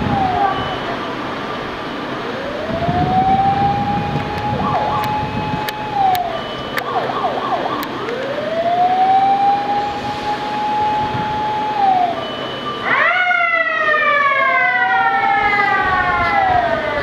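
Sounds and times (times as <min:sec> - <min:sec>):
fire siren wailing: 0:00.0 - 0:17.0.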